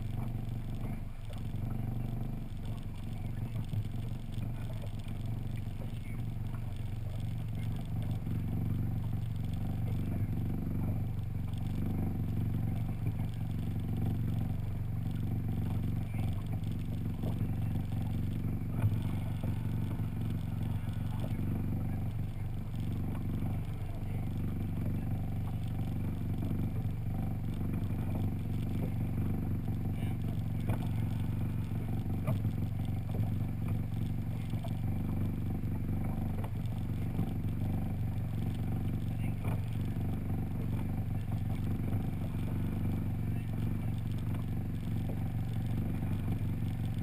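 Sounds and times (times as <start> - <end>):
boat motor humming: 0.0 - 47.0.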